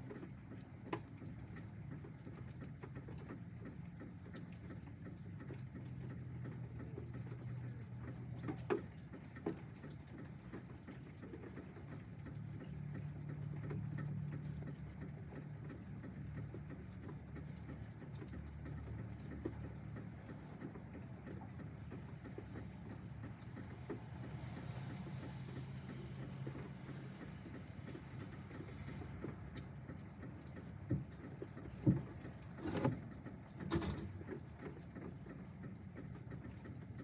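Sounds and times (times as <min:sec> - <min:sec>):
light rain pattering: 0:00.0 - 0:37.0
water drips: 0:00.0 - 0:37.0.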